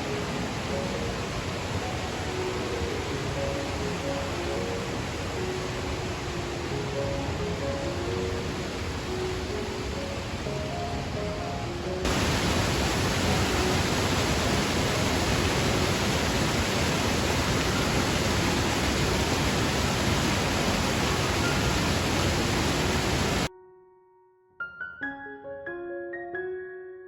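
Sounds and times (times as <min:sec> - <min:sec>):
soft piano notes: 0:00.0 - 0:16.1, 0:20.8 - 0:27.0
waterfall rushing: 0:00.0 - 0:23.5.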